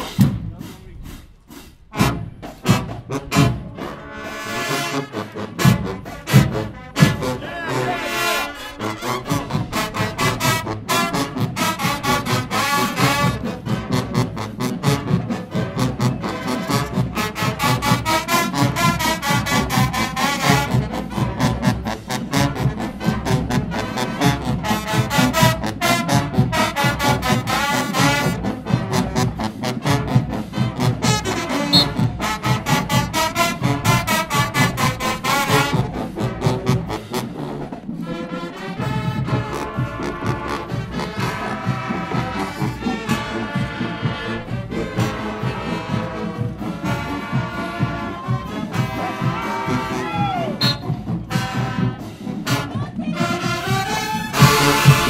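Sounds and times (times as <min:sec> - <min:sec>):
steady drum beat: 0:00.0 - 0:03.9, 0:05.5 - 0:55.0
brass playing a tune: 0:01.5 - 0:55.0.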